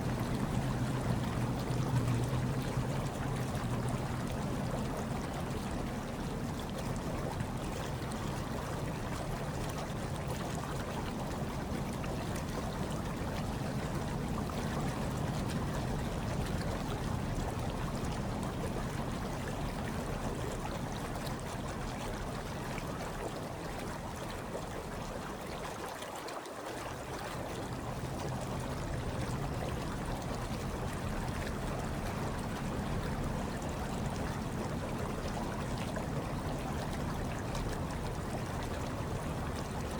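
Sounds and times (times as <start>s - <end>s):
hot tub water churning: 0.0s - 39.9s.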